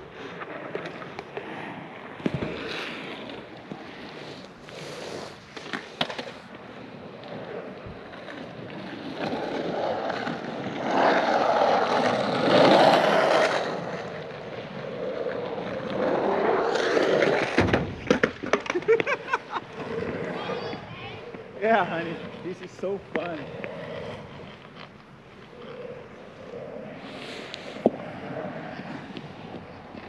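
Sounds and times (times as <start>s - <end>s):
skateboard wheels rolling on asphalt: 0.0s - 30.0s.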